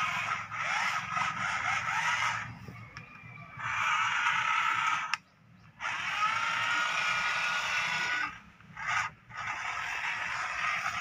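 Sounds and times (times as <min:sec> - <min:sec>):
toy motor grinding whine: 0:00.0 - 0:05.2, 0:05.8 - 0:11.0.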